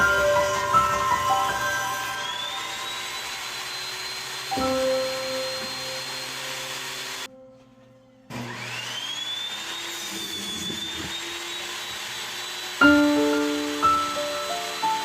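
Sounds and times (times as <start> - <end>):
power tool motor whining: 0.0 - 7.3, 8.3 - 15.0.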